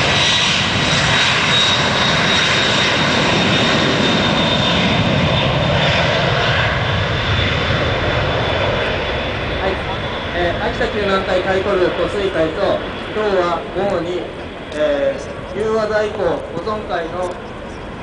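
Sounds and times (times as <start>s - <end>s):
jet engines at high power: 0.0s - 18.0s.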